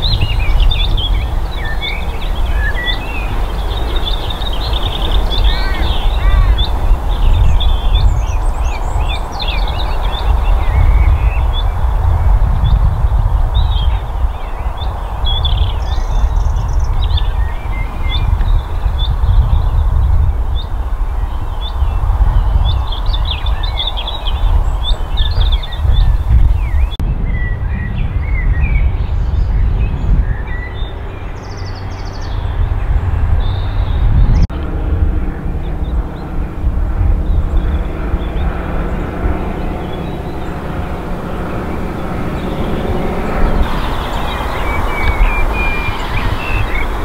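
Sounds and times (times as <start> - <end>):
loud unsteady low rumble: 0.0 - 47.0
small birds chirping: 0.0 - 47.0.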